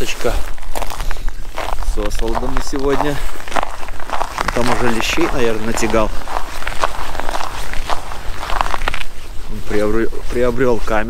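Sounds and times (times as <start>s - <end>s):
footsteps crunching on snow: 0.0s - 11.0s
steady low rumble: 0.0s - 11.0s.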